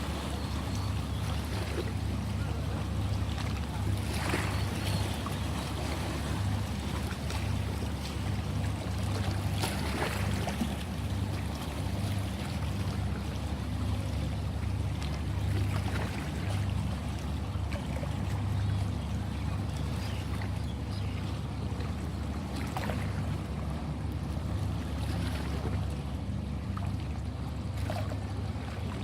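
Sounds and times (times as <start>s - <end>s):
ocean waves washing: 0.0s - 29.0s
water splashes: 0.0s - 29.0s.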